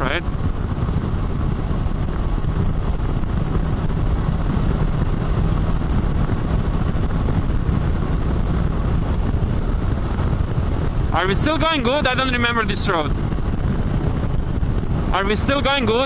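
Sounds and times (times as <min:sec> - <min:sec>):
motorcycle engine drone: 0:00.0 - 0:16.0
wind rushing over microphone: 0:00.0 - 0:16.0.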